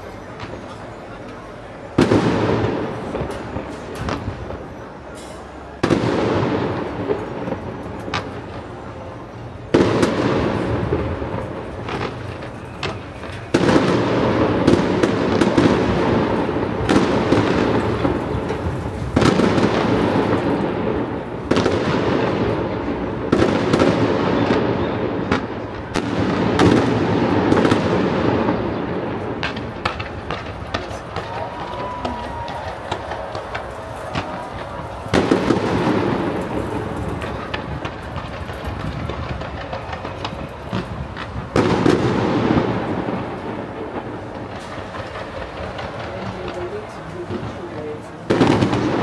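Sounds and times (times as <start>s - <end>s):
heavy firework bursts: 0.0s - 49.0s
firework pops and bangs: 0.3s - 1.4s, 2.0s - 9.0s, 9.7s - 49.0s.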